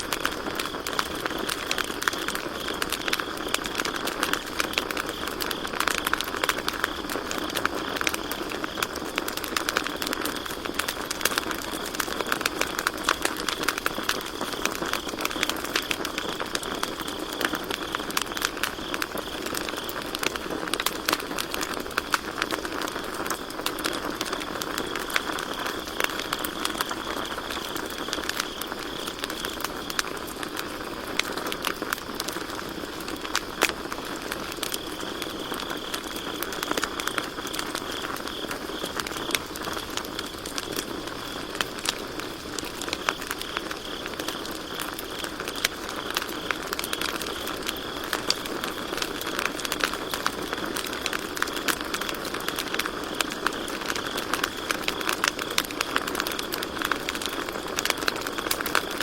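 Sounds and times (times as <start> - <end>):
campfire crackling and popping: 0.0 - 59.0
crickets trilling: 0.0 - 59.0
steady hiss of fire: 0.0 - 59.0.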